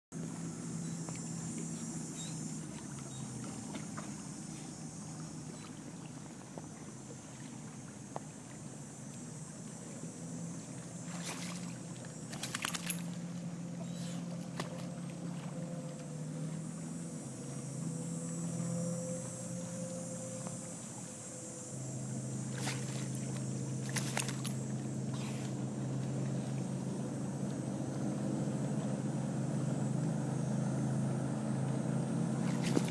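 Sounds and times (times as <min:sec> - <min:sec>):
distant boat engine drone: 0:00.1 - 0:32.9.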